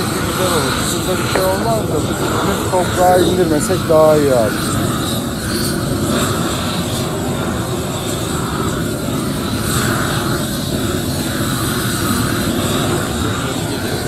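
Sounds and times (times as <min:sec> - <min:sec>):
gas torch burning: 0:00.0 - 0:14.0.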